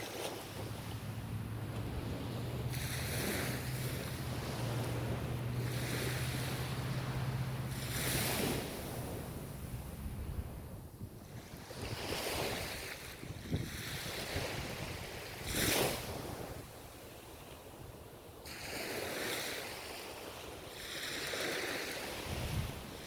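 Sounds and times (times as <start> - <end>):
ocean waves breaking on shore: 0.0 - 23.0.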